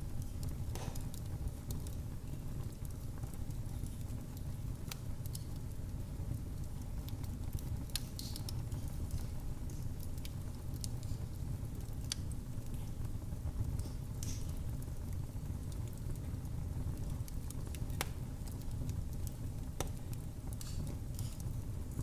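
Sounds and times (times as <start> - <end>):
fire popping and snapping: 0.0 - 22.0
low rumble of burning fire: 0.0 - 22.0.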